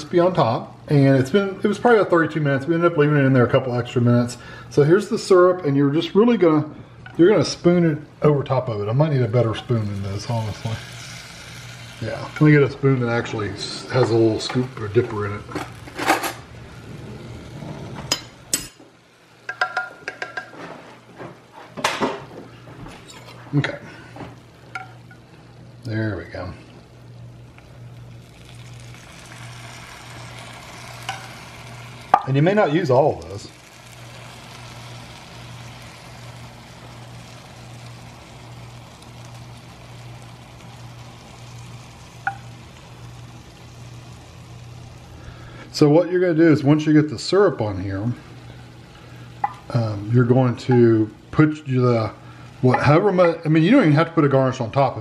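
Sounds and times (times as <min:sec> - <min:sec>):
constant low hum: 0:00.0 - 0:55.0
pastry sizzling soft hiss: 0:00.0 - 0:55.0.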